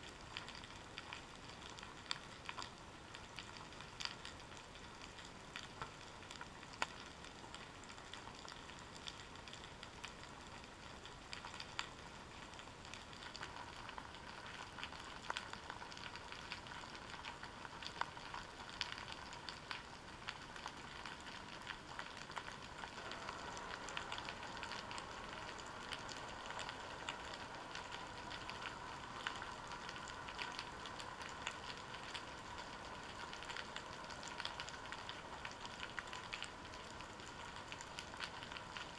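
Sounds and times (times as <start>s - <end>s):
faint hum: 0.0s - 38.9s.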